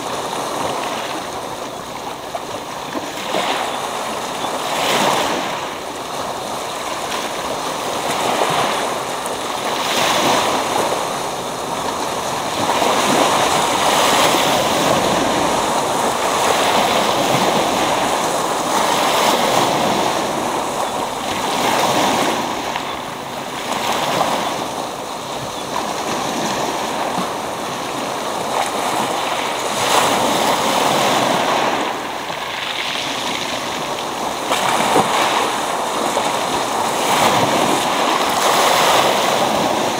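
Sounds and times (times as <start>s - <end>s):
waves breaking on pebble beach: 0.0s - 39.9s.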